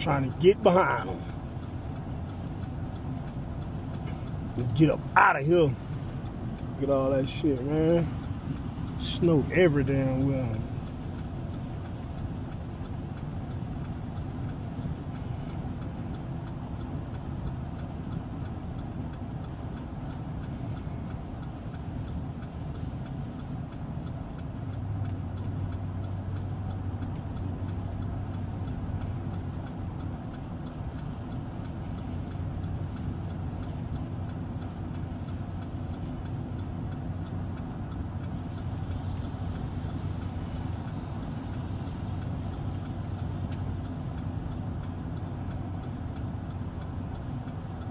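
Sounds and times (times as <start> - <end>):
vehicle engine and road noise: 0.0 - 47.9.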